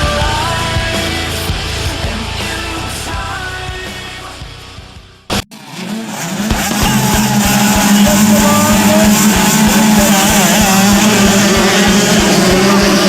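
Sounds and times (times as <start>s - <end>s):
motocross bike engines droning: 0.0s - 13.0s.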